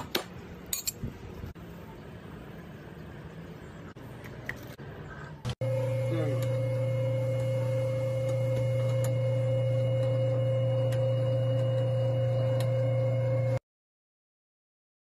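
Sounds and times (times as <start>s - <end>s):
machine hum: 1.5s - 13.6s.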